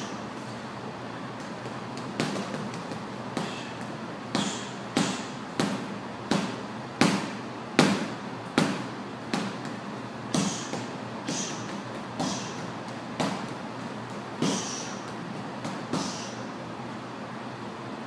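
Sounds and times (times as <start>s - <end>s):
boxing gloves punching heavy bag: 1.4s - 16.4s.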